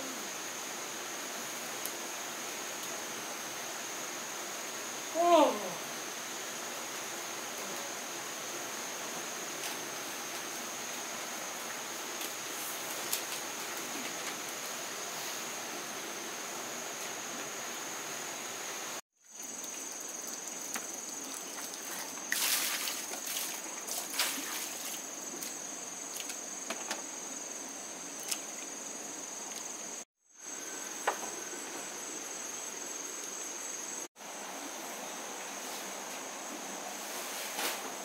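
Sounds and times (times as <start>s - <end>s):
background hiss: 0.0s - 38.0s.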